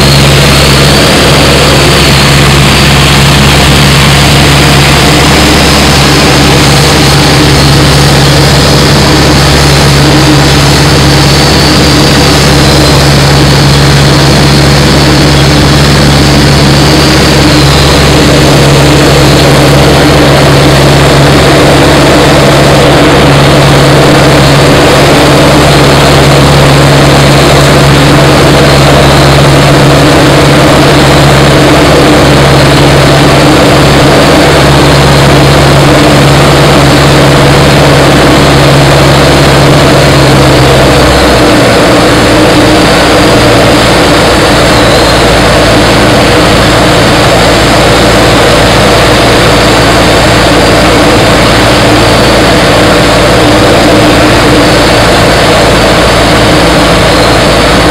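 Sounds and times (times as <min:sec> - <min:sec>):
airplane engine drone in cockpit: 0:00.0 - 0:57.9.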